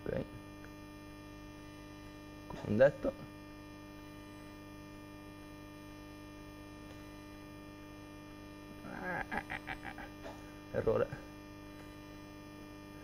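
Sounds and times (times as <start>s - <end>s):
faint mains hum: 0.0s - 13.0s.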